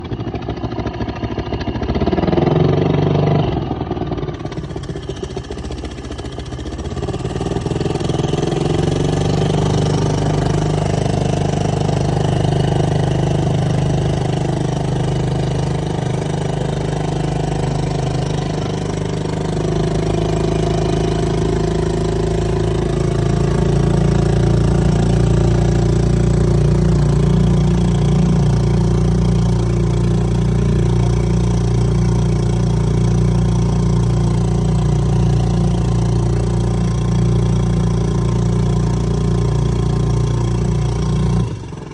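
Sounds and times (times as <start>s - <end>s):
outboard motor running: 0.0s - 41.9s.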